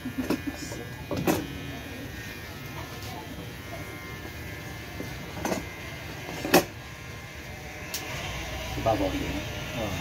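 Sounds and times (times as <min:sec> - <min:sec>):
electric hair clipper buzzing: 0:00.0 - 0:10.0.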